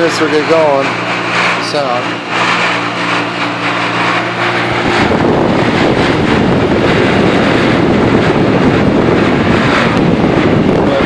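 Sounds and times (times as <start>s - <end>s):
heat pump humming: 0.0s - 11.0s
loud rushing noise: 0.0s - 11.0s.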